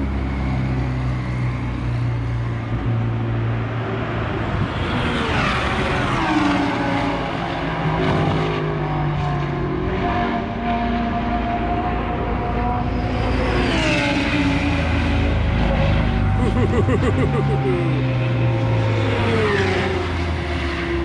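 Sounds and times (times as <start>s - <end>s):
race car engine at low revs: 2.2s - 21.0s.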